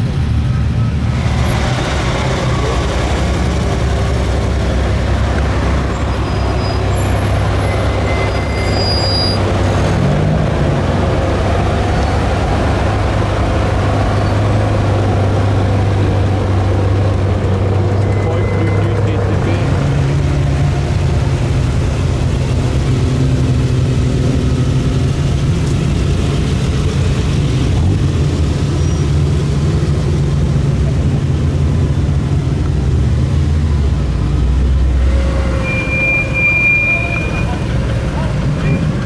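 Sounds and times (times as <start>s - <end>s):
car engine droning: 0.0s - 39.0s.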